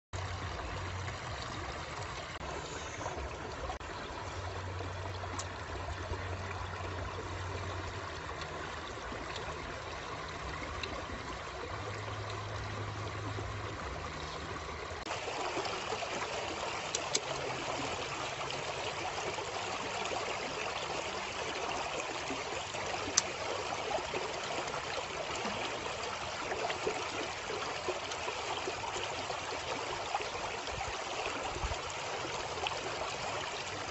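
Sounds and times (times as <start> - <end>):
stream water rushing over rocks: 0.2 - 33.9.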